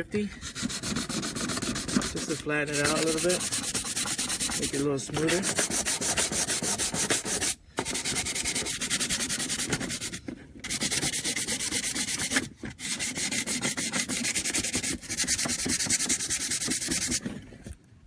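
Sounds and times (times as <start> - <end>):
sandpaper scraping on metal: 0.2 - 17.4.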